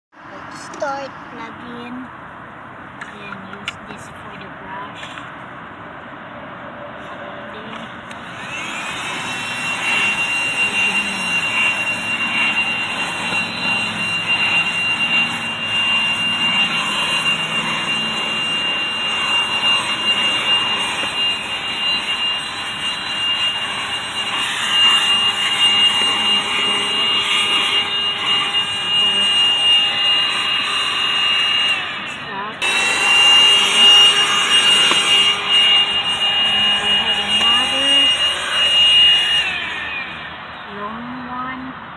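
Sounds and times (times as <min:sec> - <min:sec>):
handheld vacuum motor whine: 0:07.0 - 0:41.4.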